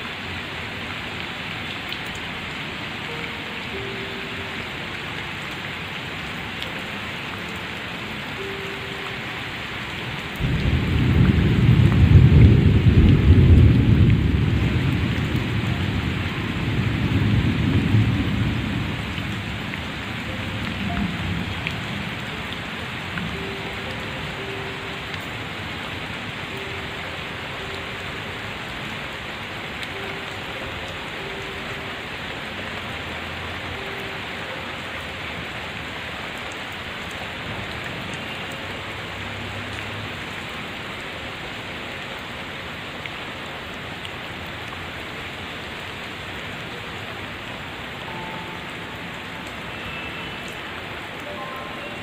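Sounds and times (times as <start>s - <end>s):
steady rain on foliage: 0.0s - 52.0s.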